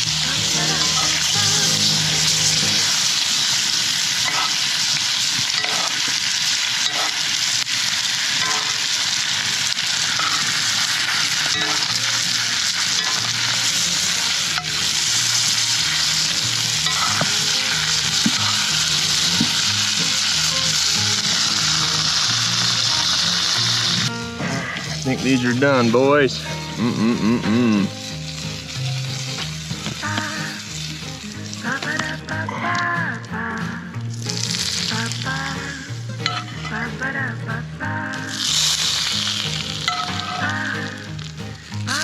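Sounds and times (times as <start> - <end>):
meat sizzling over fire: 0.0 - 42.0.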